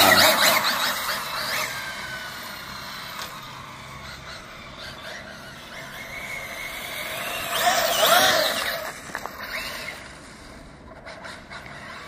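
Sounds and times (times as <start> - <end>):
electric motor whine of rc car: 0.0 - 12.0.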